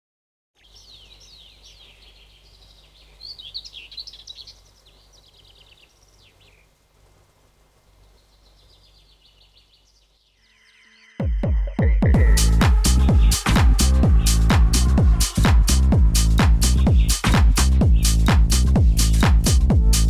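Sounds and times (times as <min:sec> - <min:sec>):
songbirds chirping and singing: 0:00.6 - 0:06.8, 0:07.9 - 0:18.3.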